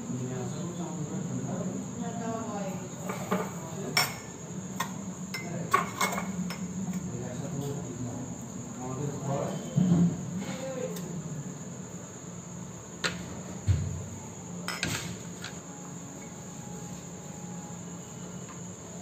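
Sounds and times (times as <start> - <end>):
cricket chirring: 0.0 - 19.0.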